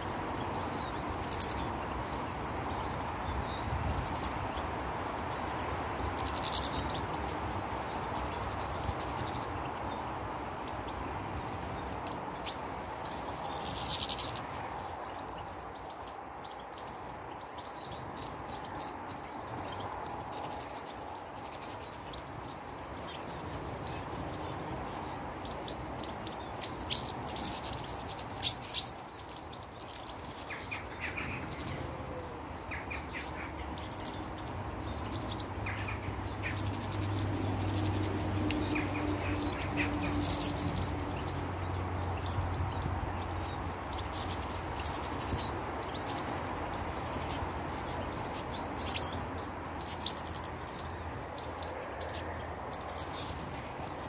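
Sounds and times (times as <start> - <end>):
finches chirping and twittering: 0.0 - 54.0.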